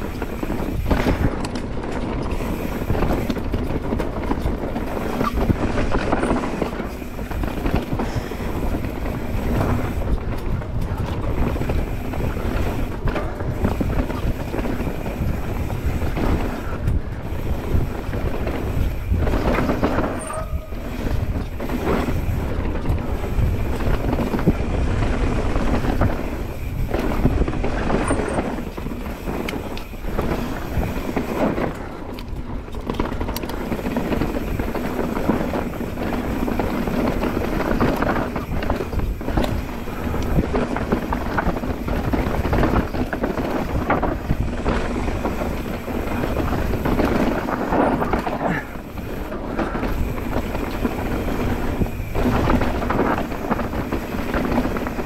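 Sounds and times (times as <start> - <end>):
bike chain and frame rattling: 0.0 - 55.0
tyre and wind noise: 0.0 - 55.0.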